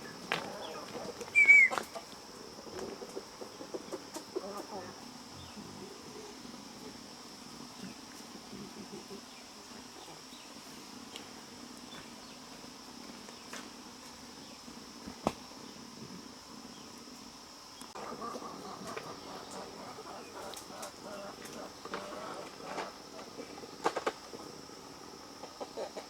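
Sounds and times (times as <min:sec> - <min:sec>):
faint animal sounds: 0:00.0 - 0:15.0, 0:15.6 - 0:26.0
insects buzzing: 0:00.0 - 0:26.0.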